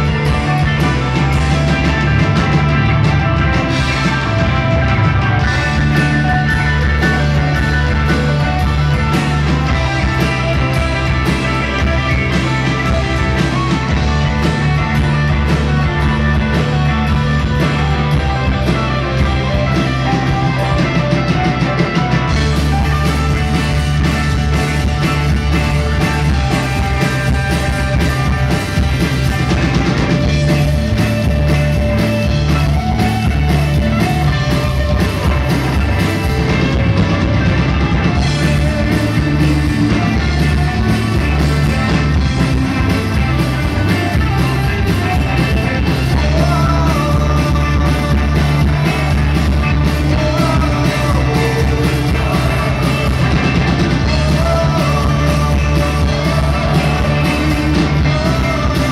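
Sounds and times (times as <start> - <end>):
bass guitar: 0.0 - 58.9
bending guitar melody lines: 0.0 - 58.9
drums: 0.0 - 58.9.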